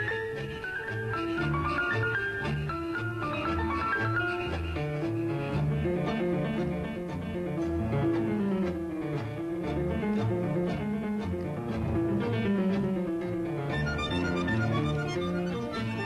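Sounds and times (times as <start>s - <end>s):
tango music with bass beat: 0.0s - 16.0s.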